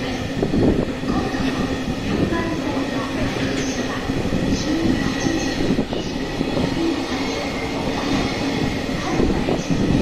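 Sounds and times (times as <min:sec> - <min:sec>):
train wheels rumbling over rails: 0:00.0 - 0:10.0.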